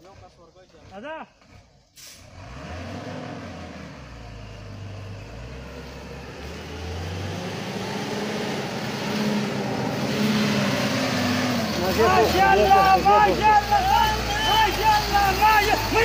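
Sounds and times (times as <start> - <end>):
truck diesel engine labouring: 0.0 - 16.0.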